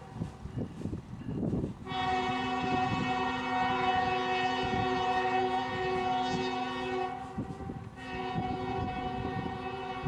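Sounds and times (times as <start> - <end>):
locomotive air horn blasts: 1.8 - 10.0.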